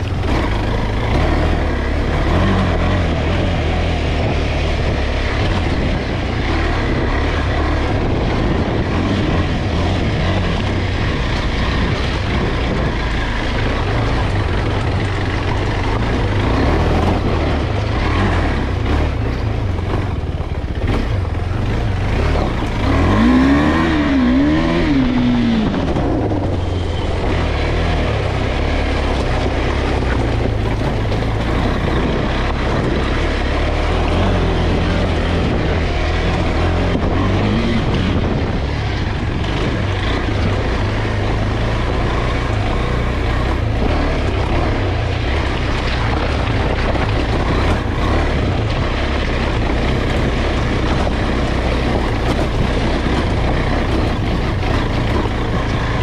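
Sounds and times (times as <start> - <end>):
motorcycle engine revving: 0.0 - 56.0
tyres rumbling on loose stones: 0.0 - 56.0.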